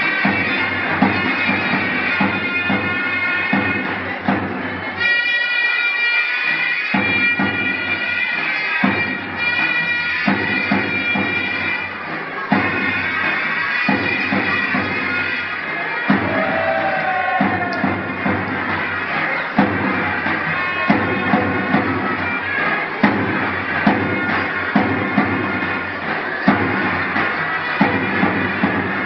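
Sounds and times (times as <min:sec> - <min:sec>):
steady drum beat: 0:00.0 - 0:05.0, 0:08.8 - 0:29.0.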